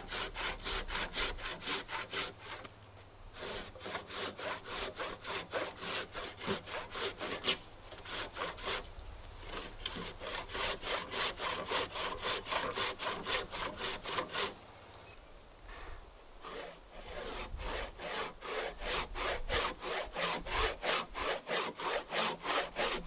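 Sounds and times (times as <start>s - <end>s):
hand saw cutting timber: 0.0s - 14.6s, 16.4s - 23.0s.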